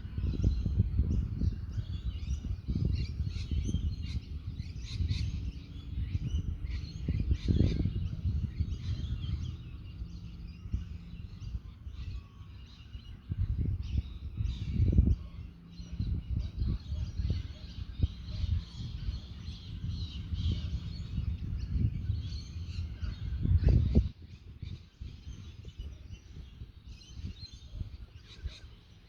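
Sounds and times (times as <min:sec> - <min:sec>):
birds chirping: 0:00.0 - 0:29.0
wind rumbling on microphone: 0:00.0 - 0:29.0.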